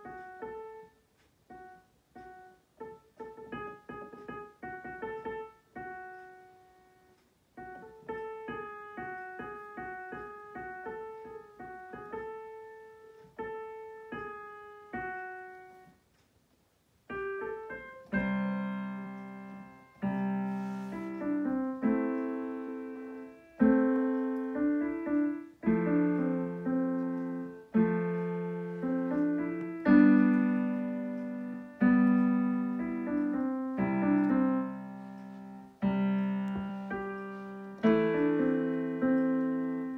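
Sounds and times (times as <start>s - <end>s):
low piano chords: 0.0s - 16.0s, 17.0s - 39.9s
piano melody: 0.0s - 16.0s, 17.0s - 39.9s.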